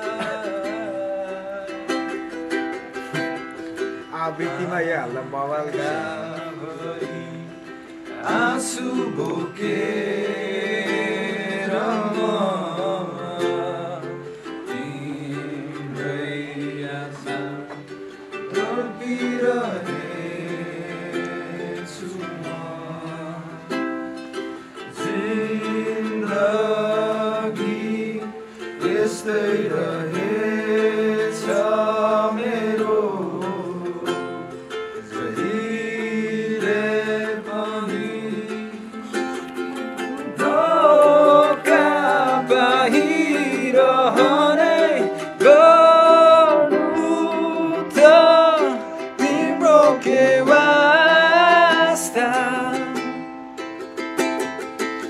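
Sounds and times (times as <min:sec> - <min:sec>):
person singing: 0:00.0 - 0:55.0
ukulele: 0:00.0 - 0:55.0.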